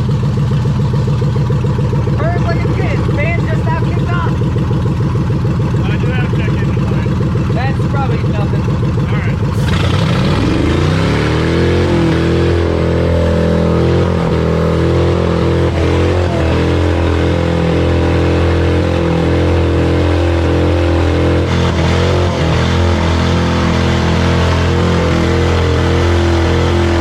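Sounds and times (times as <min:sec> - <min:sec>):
car engine running at raised speed: 0:00.0 - 0:27.0.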